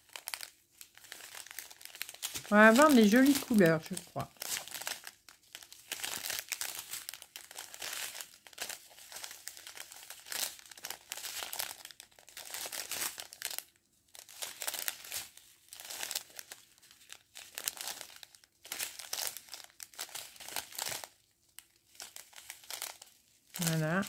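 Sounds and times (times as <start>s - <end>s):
plastic bags crinkling: 0.0s - 24.0s.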